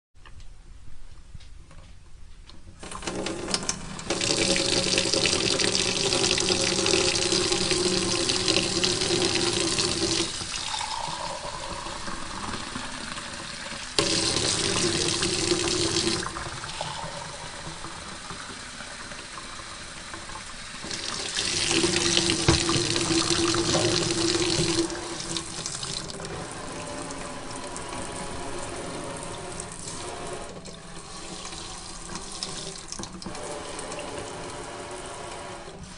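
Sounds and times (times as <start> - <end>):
tap water running into sink: 2.8 - 34.7.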